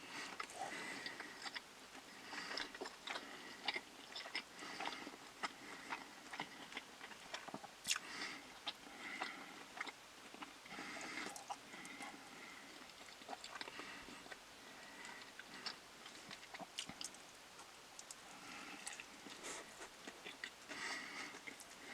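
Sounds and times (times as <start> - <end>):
person chewing crunchy food: 0.0 - 21.9.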